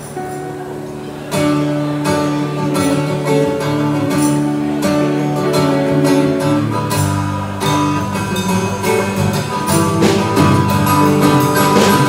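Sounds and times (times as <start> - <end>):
live folk-rock band: 0.0 - 12.0
strummed acoustic guitar: 0.0 - 12.0.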